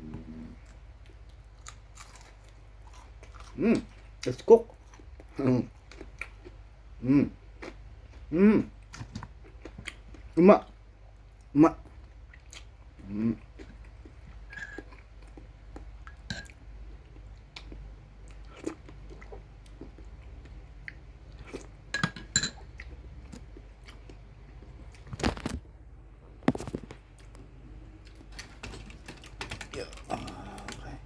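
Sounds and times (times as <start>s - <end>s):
chewing crispy fried chicken: 0.1s - 21.8s, 26.5s - 31.0s.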